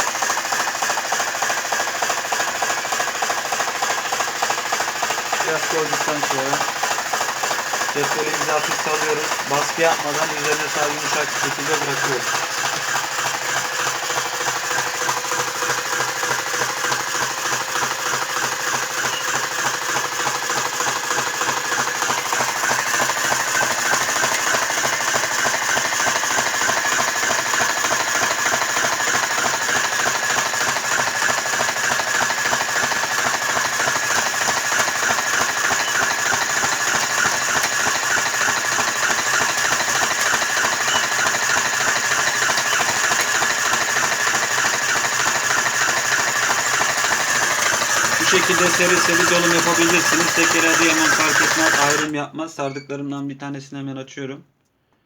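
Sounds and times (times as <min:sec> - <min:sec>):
machine clattering rapidly: 0:00.0 - 0:52.2.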